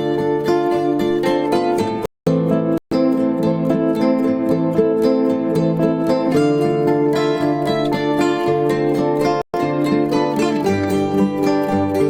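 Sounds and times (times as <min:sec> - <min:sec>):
plucked string music over chords: 0:00.0 - 0:12.0.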